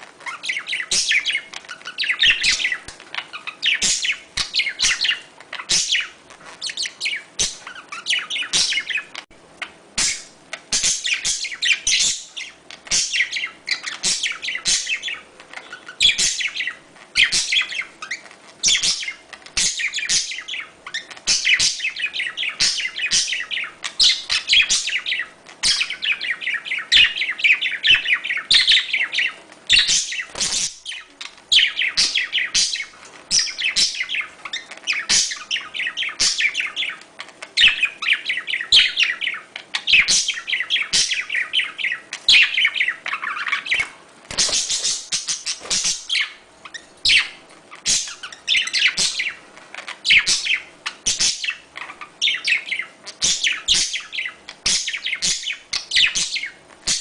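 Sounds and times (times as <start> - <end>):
budgerigars chattering and warbling: 0.2 - 57.0.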